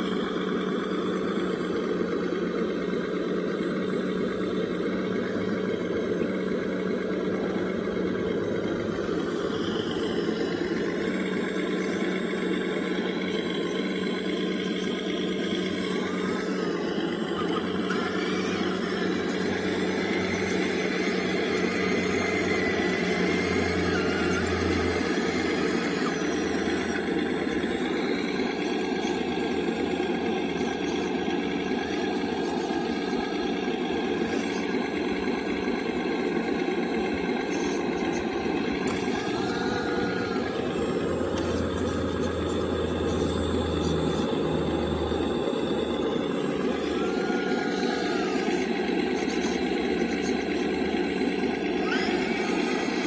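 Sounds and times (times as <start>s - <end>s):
hydraulic pump running: 0.0s - 53.0s.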